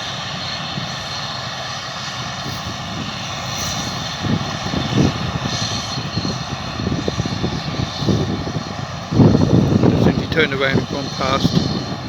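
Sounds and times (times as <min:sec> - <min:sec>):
farm machinery engine droning: 0:00.0 - 0:12.0.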